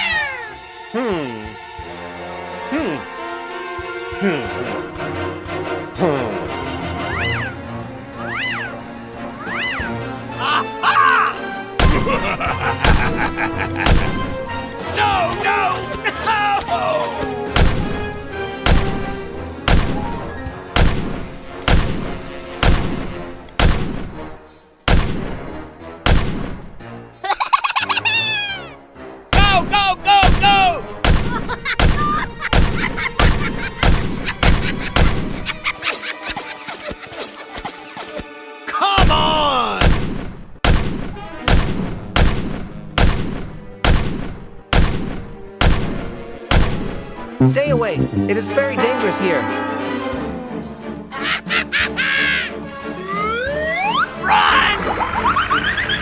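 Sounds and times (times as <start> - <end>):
background music with sustained tones: 0.0 - 38.7, 41.2 - 56.0.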